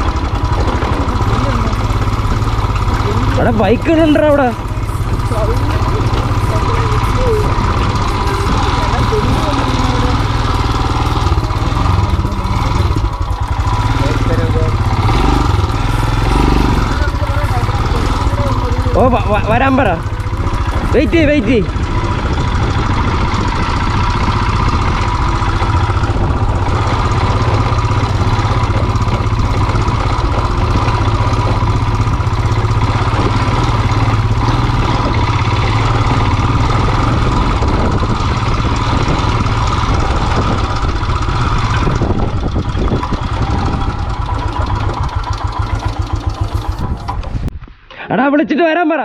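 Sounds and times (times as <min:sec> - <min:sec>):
motorcycle engine idling: 0:00.0 - 0:47.6.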